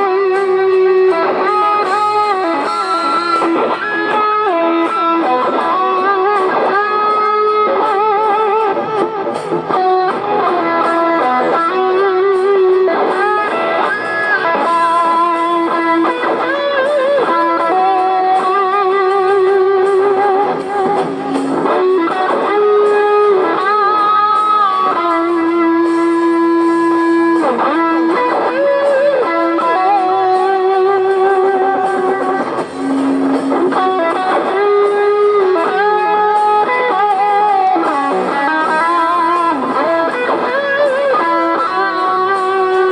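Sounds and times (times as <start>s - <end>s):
electric guitar lead melody: 0.0s - 42.9s.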